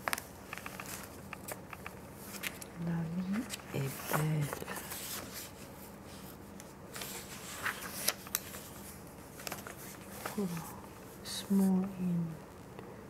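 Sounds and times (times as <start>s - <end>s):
crisp paper crackles: 0.0s - 5.7s, 6.9s - 11.7s
magazine pages rustling: 0.0s - 10.7s.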